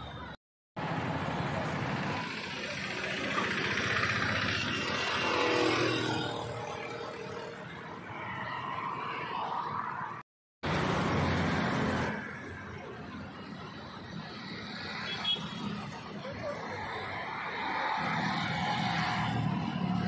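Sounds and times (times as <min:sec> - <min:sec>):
car engines and tyres passing: 0:00.0 - 0:20.0.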